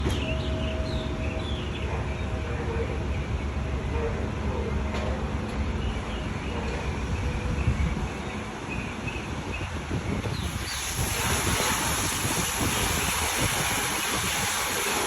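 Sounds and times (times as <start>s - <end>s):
car wash machinery rumble: 0.0s - 15.0s.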